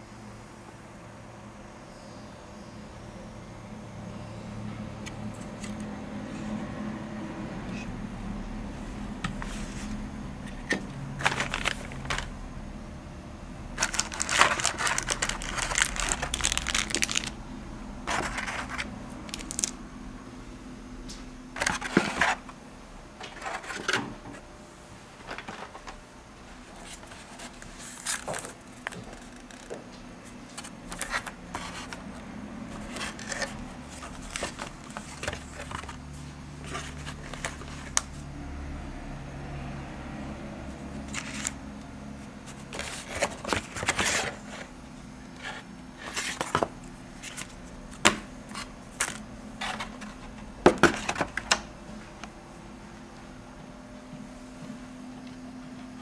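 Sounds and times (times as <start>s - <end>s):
cooling fan humming: 0.0s - 56.0s.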